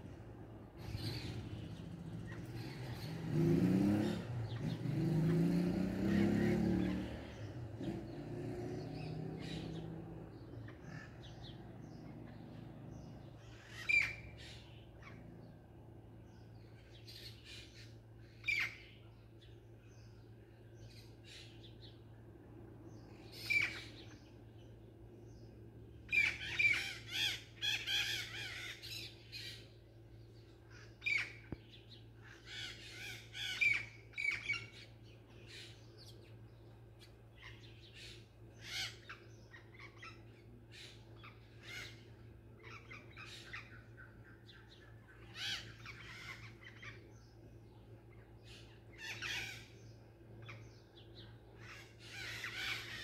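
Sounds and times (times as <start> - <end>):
small birds calling: 0.0 - 53.0.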